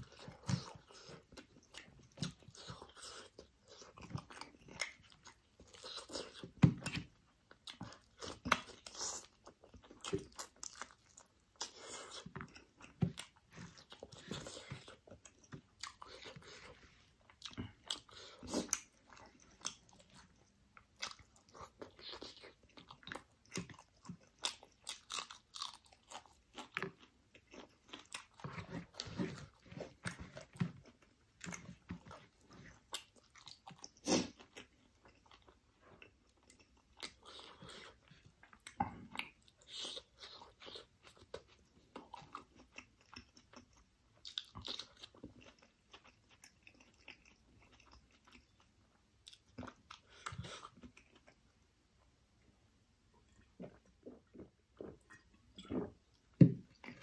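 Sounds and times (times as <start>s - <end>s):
wet chewing and smacking: 0.0s - 52.1s, 53.1s - 57.0s.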